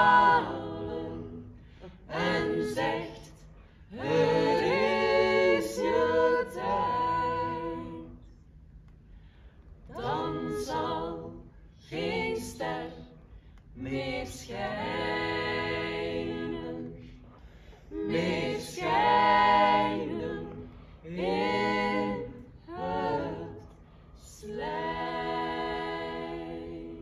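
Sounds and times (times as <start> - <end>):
group singing a cappella: 0.0 - 8.4, 9.8 - 27.0.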